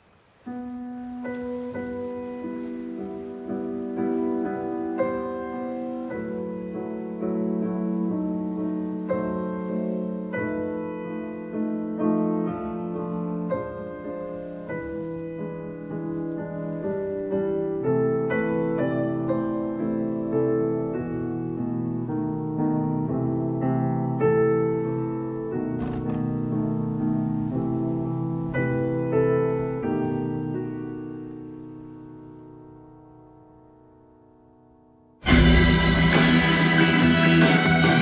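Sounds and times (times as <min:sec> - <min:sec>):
slow piano music: 0:00.0 - 0:38.0.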